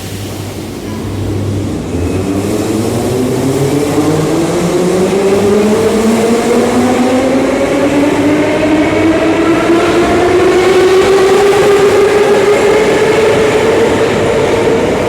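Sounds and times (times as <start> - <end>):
metro train accelerating: 0.0 - 15.0.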